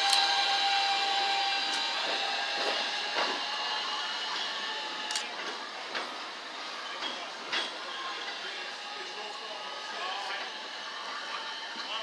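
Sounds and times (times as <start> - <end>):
subway train whining: 0.0 - 12.0
wheels clicking on rails: 0.0 - 12.0.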